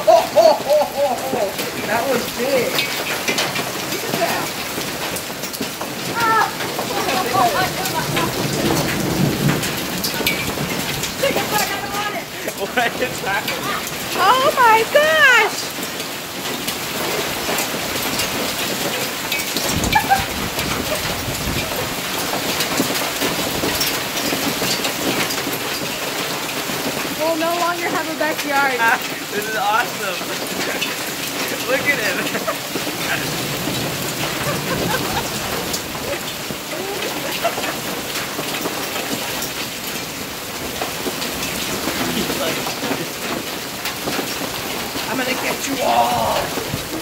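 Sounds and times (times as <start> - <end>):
hailstones falling on gravel: 0.0 - 47.0.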